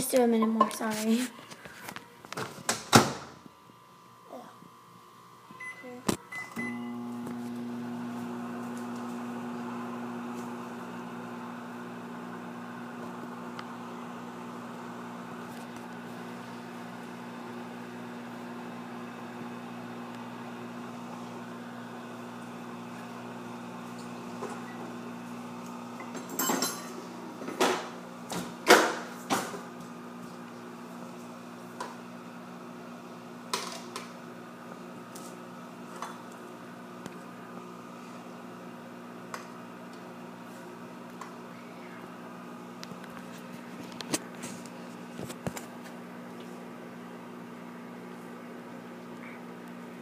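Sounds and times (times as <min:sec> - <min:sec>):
microwave oven humming: 0:01.4 - 0:50.0.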